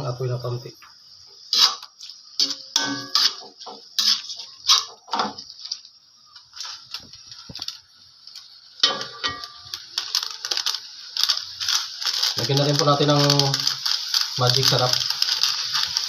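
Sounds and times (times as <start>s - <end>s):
frying sizzle: 0.0s - 16.0s.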